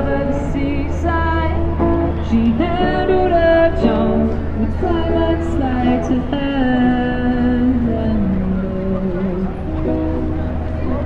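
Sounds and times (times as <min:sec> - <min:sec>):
woman singing long notes: 0:00.0 - 0:10.3.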